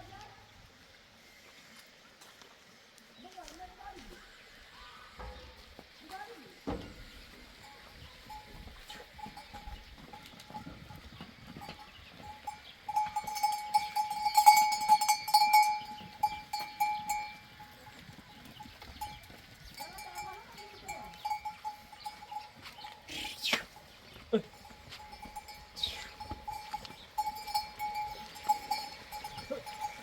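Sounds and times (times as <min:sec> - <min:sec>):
livestock bells clinking: 0:05.8 - 0:30.0.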